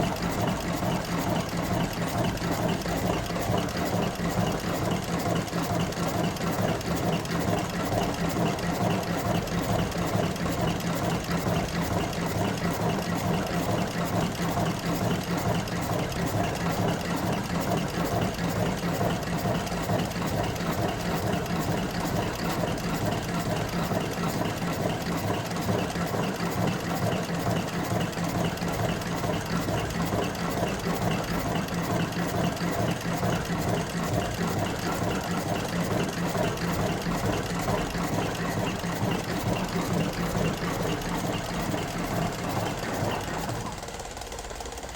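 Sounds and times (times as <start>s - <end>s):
machine clattering: 0.0s - 44.9s.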